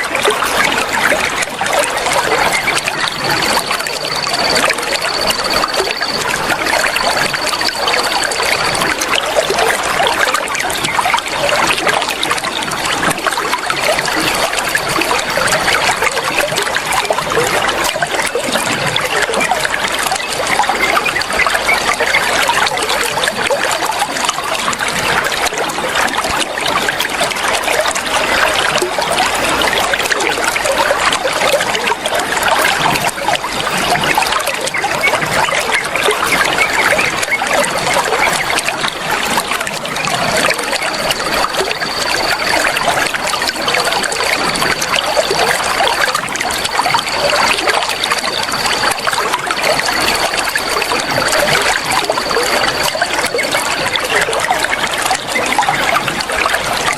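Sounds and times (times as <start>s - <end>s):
water trickling: 0.0s - 56.9s.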